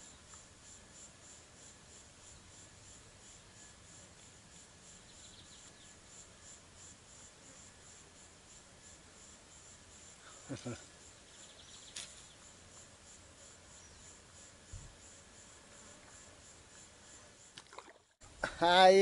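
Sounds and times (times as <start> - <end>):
lower insect trill: 0.0 - 19.0.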